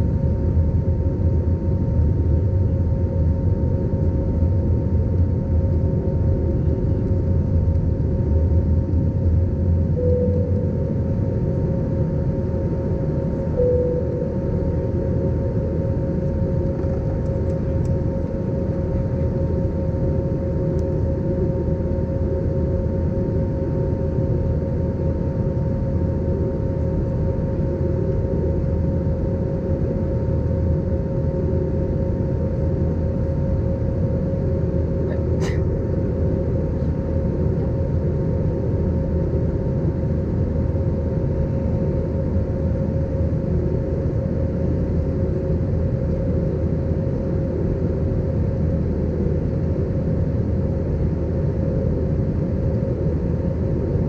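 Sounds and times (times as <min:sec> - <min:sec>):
constant whining tone: 0:00.0 - 0:54.0
jet engine drone in cabin: 0:00.0 - 0:54.0.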